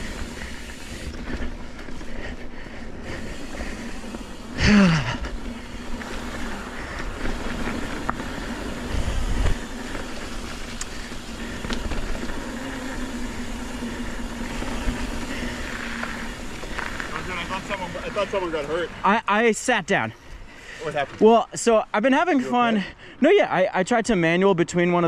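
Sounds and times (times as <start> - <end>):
bike tyres rumbling on dirt: 0.0 - 21.8.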